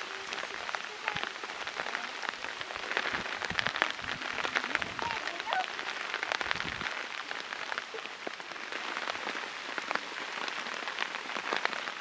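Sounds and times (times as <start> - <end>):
close raindrop hits: 0.0 - 12.0
rain falling on water: 0.0 - 12.0.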